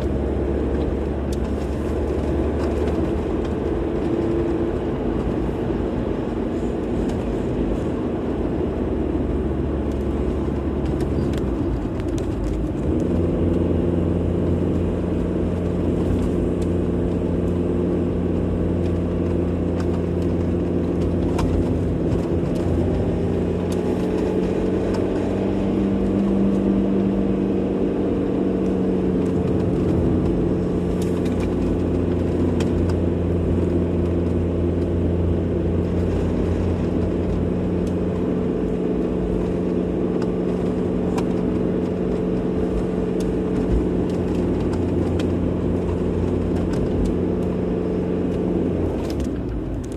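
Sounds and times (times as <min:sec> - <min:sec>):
car engine: 0:00.0 - 0:49.9
road rumble: 0:00.0 - 0:49.9.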